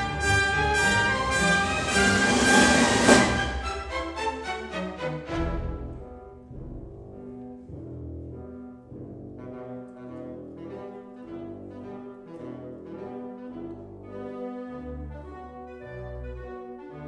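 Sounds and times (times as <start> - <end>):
music with long held notes: 0.0 - 17.0.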